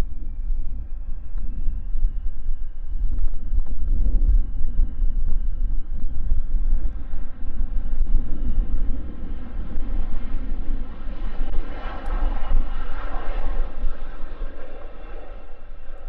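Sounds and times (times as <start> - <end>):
jet aircraft engines running: 0.0 - 16.0
wind buffeting microphone: 0.0 - 16.0.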